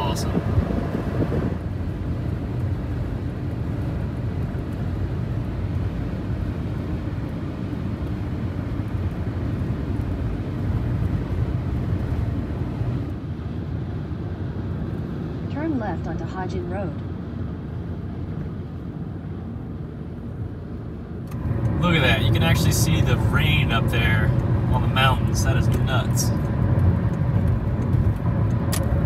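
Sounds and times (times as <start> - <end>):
road and tyre noise: 0.0 - 29.0.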